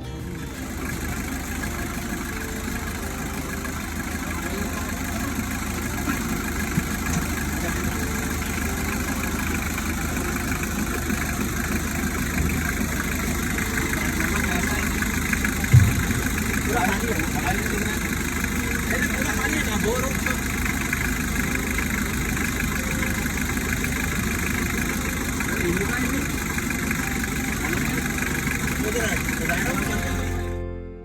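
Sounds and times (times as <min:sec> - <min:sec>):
jeep engine idling: 0:00.0 - 0:30.8.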